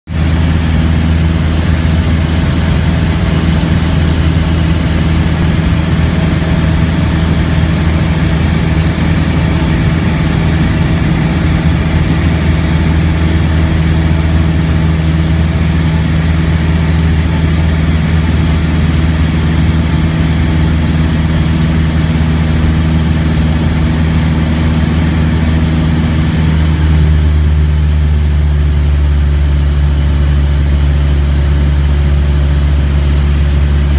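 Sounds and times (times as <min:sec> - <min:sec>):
light aircraft engine droning: 0:00.1 - 0:33.9.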